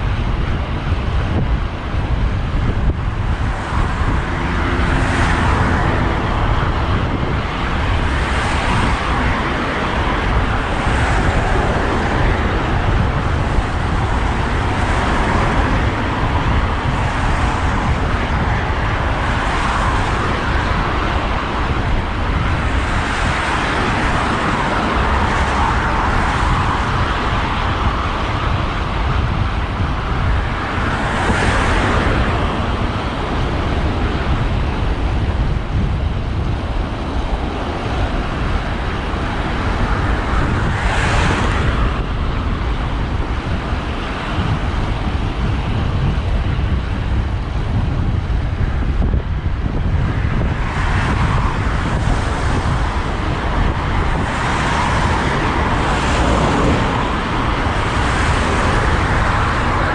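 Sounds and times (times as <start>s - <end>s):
cars passing: 0.0s - 59.9s
road traffic rumble: 0.0s - 59.9s.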